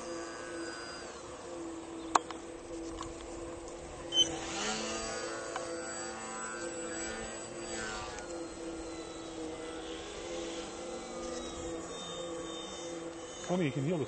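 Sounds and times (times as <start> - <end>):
rc plane motor whining drone: 0.0 - 14.0.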